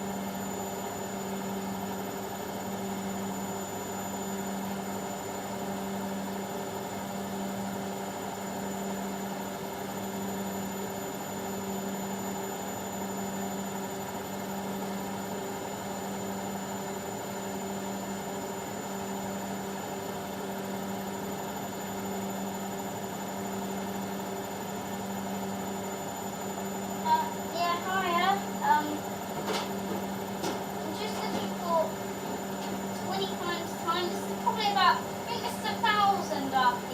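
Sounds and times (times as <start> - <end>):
washing machine spin cycle: 0.0 - 36.9.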